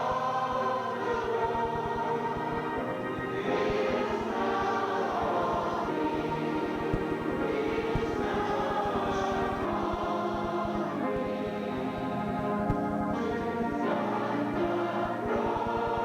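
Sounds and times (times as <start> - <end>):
congregation singing: 0.0 - 16.0.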